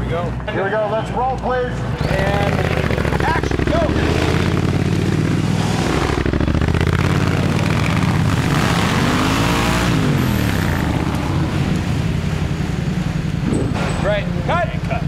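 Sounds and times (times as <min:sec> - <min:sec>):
motorcycle engine running: 0:01.9 - 0:15.0.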